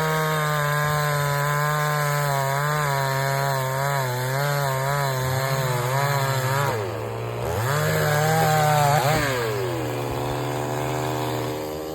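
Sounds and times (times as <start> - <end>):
chainsaw engine revving: 0.0 - 11.9.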